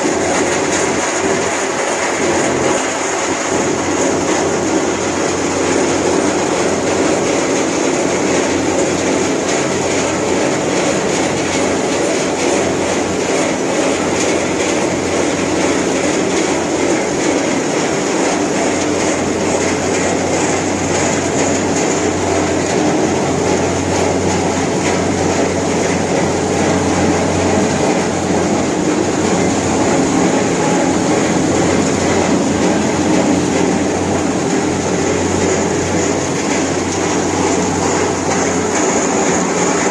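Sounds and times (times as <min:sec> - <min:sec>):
crusher machine din: 0:00.0 - 0:39.9.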